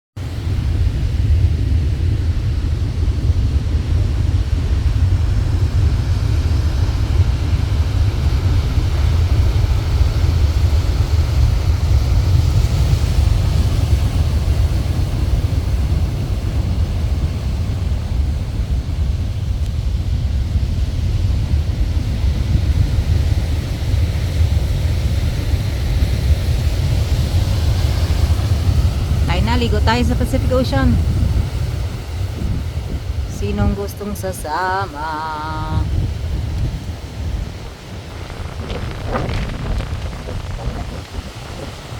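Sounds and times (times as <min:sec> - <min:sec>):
rough surf on boulders: 0:00.2 - 0:41.9
wind buffeting microphone: 0:00.2 - 0:41.9.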